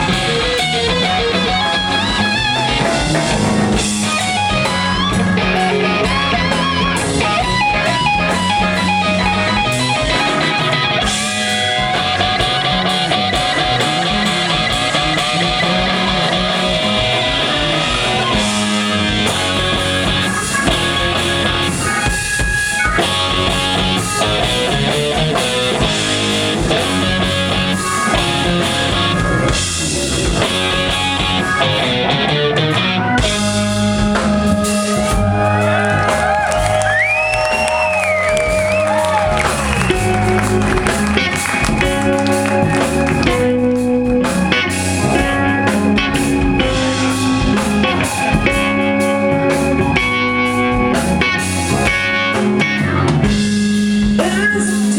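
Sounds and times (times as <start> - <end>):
bending sliding guitar notes: 0.0 - 54.9
blues rock band playing: 0.0 - 54.9.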